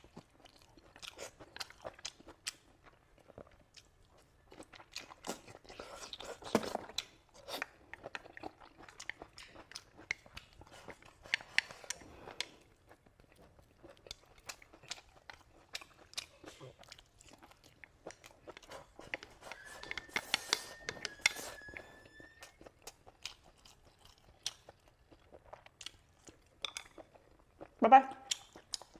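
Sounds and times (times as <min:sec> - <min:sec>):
person crunching and chewing food: 0:00.0 - 0:28.9.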